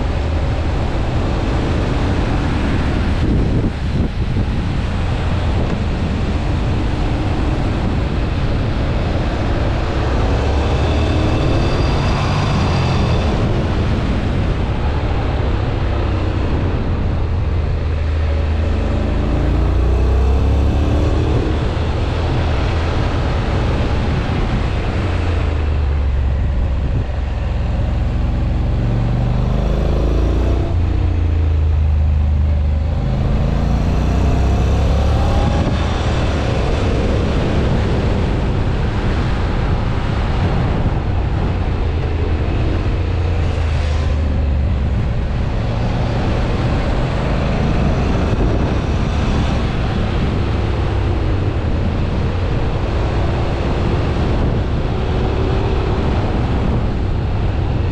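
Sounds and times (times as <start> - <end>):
motorcycle engine accelerating: 0.0 - 57.9
wind noise: 0.0 - 57.9.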